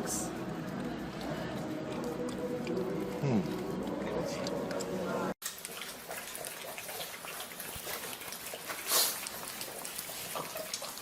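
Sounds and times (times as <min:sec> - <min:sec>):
dog licking food: 0:00.3 - 0:11.0.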